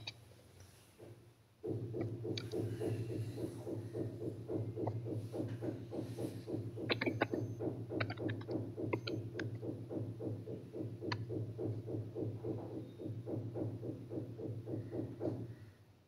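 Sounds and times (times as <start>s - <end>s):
sharp clicks: 1.6s - 15.5s
pulsing low hum: 1.6s - 15.7s.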